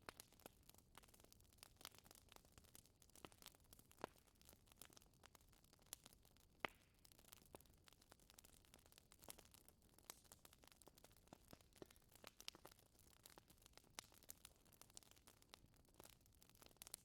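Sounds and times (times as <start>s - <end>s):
wood fire crackling: 0.0s - 17.0s
fire popping: 0.1s - 17.0s.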